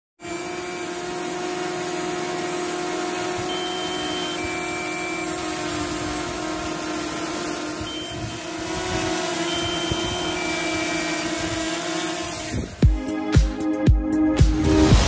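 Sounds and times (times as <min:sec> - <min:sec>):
drone propellers whining: 0:00.2 - 0:13.1.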